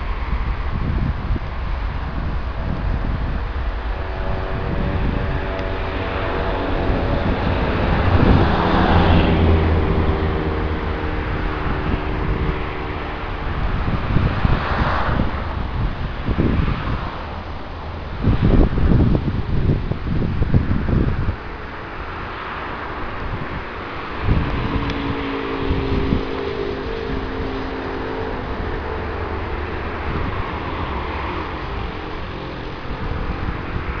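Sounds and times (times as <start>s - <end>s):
jet engines rolling past: 0.0s - 34.0s.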